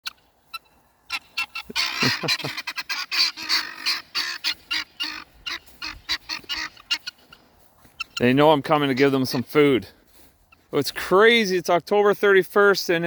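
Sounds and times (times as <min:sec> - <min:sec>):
guineafowl calling harshly: 0:00.0 - 0:10.7.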